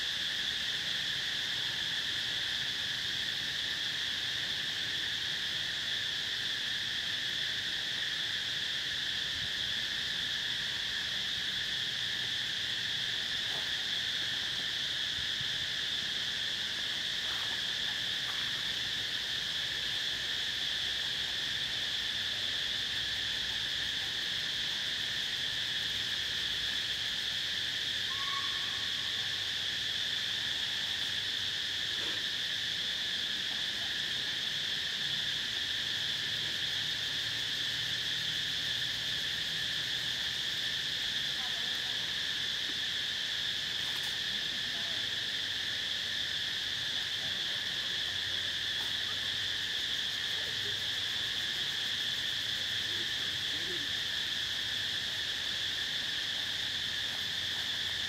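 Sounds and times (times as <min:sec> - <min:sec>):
insects chorus drone: 0:00.0 - 0:58.0.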